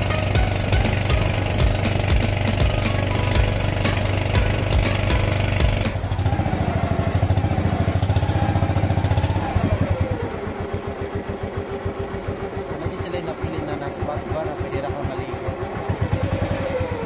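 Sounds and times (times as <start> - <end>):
small boat engine: 0.0 - 17.0.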